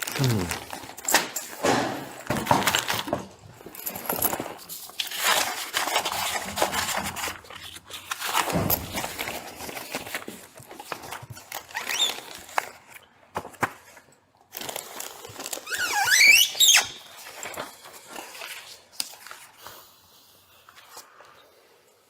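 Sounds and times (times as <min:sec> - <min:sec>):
rustling and crinkling handling noise: 0:00.0 - 0:22.0.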